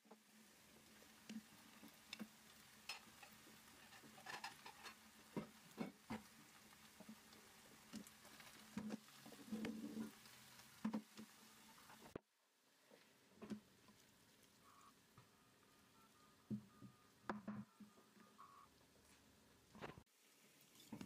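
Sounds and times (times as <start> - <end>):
food sizzling softly: 0.0 - 17.3, 18.2 - 21.0.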